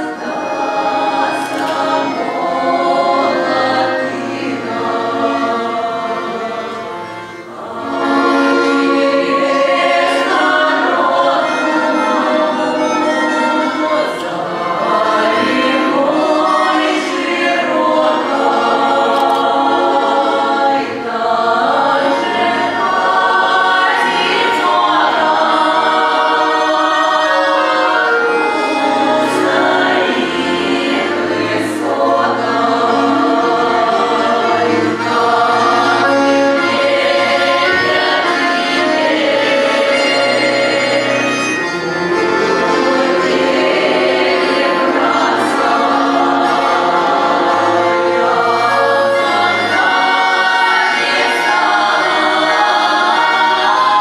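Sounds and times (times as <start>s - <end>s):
women singing in harmony: 0.0s - 54.0s.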